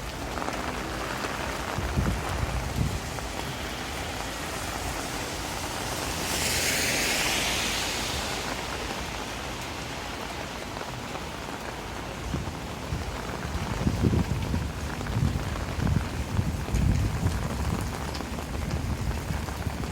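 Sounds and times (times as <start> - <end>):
rain falling on street: 0.0 - 19.9.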